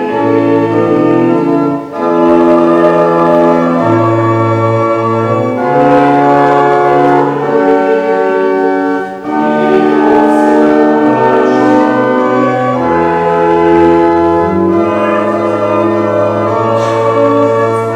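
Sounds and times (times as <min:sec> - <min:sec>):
church organ chords: 0:00.0 - 0:17.9.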